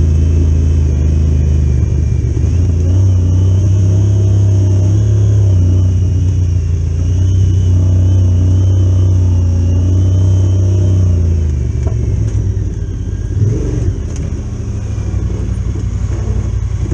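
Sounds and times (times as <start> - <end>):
engine droning: 0.0 - 16.9.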